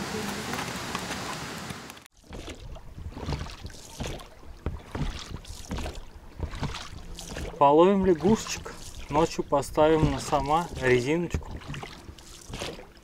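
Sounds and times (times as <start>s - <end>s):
oars splashing in water: 0.1s - 13.0s.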